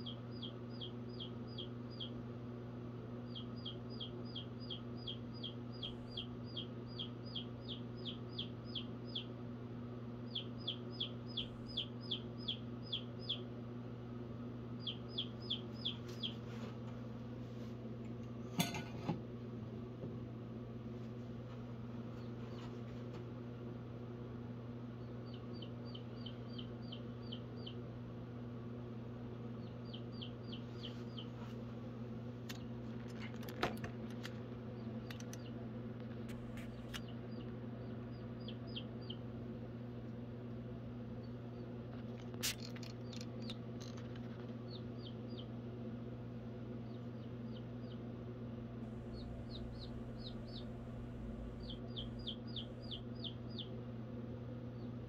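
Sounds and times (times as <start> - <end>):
baby chick peeping: 0.0 - 13.7, 14.6 - 16.8, 24.9 - 28.3, 29.1 - 31.6, 32.4 - 55.0
steady low hum: 0.0 - 55.0.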